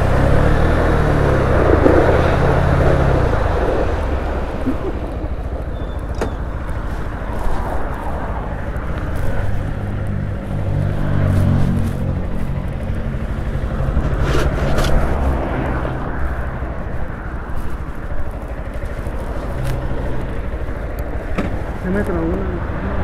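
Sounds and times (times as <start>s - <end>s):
motorcycle engine running: 0.0s - 23.0s
wind noise on microphone: 1.3s - 22.0s.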